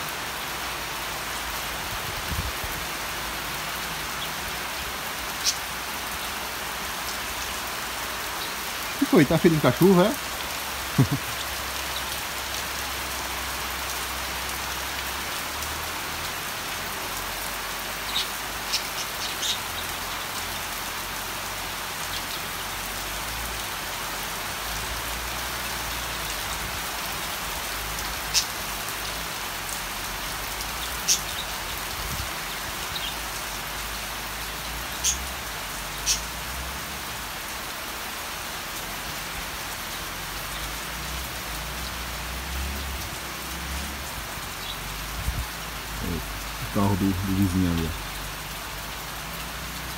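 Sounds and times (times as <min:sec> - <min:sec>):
rain on the ground: 0:00.0 - 0:49.9.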